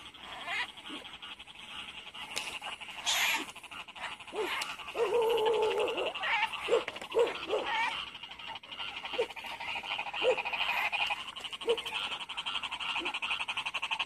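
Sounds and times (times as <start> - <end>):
frog chorus: 0.0 - 14.0
long low frog call: 0.0 - 14.0.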